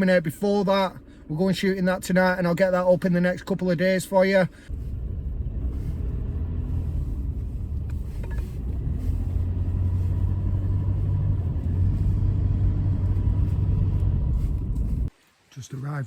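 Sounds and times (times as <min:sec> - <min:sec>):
car road and engine rumble: 0:00.0 - 0:15.2.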